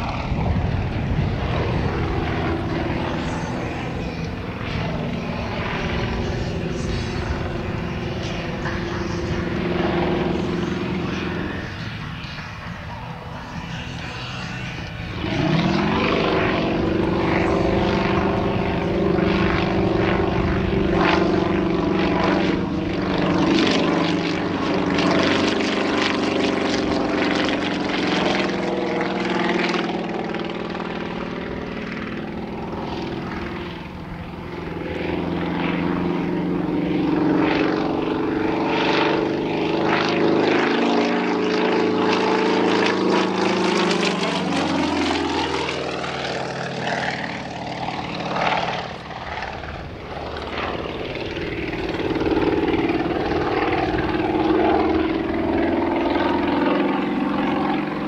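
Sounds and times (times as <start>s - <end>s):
radial engine and propeller: 0.0s - 58.0s.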